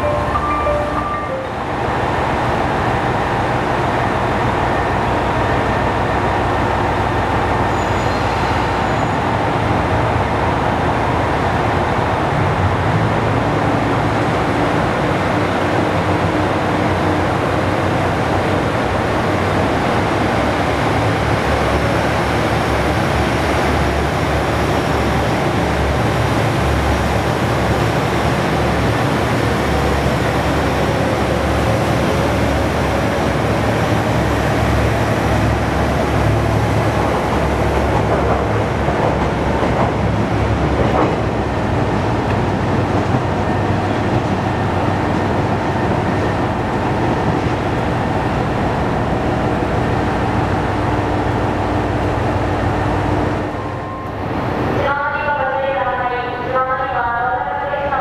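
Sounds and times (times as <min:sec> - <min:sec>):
train diesel engines running: 0:00.0 - 0:58.0.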